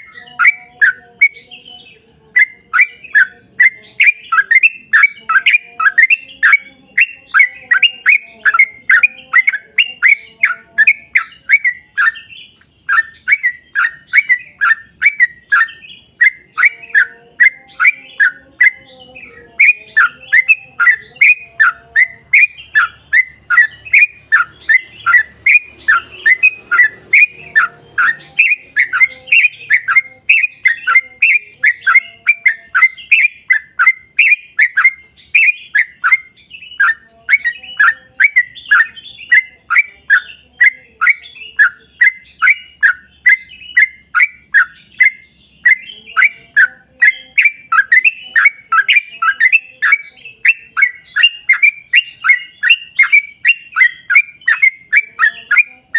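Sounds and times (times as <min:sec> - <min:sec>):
bird singing rapid repeated notes: 0:00.0 - 0:55.9.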